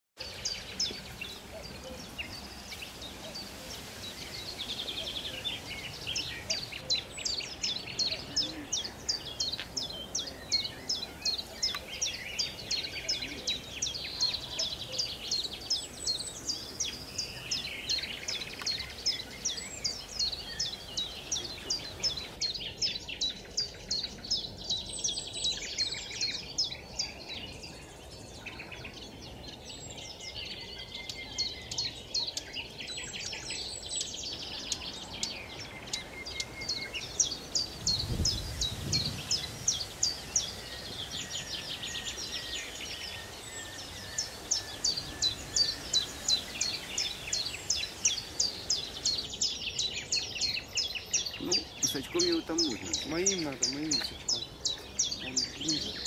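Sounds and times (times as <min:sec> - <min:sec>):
background hiss: 0:00.2 - 0:56.0
songbirds chirping: 0:00.2 - 0:56.0.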